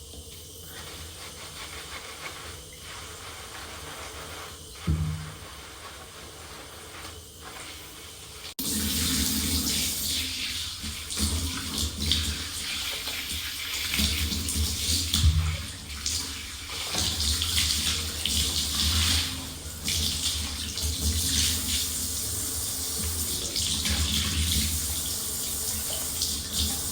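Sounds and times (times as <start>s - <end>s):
water running from a tap: 0.0s - 26.9s.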